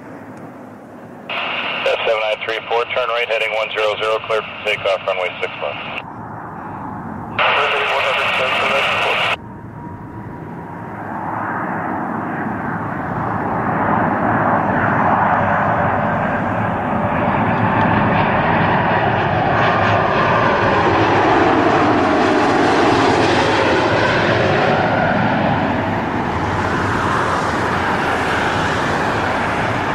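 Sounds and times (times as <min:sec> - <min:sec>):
airliner jet engines passing overhead: 0:00.0 - 0:29.9.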